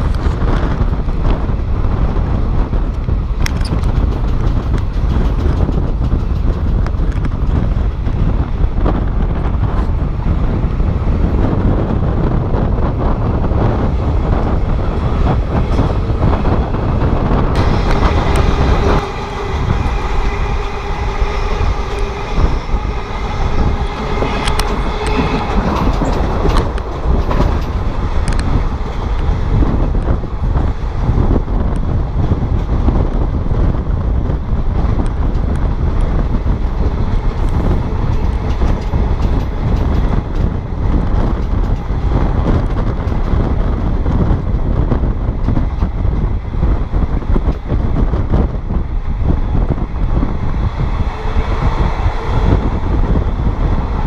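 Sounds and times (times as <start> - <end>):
train wheels rumbling: 0.0 - 54.0
wheels clicking over rail joints: 2.7 - 10.6, 11.3 - 54.0.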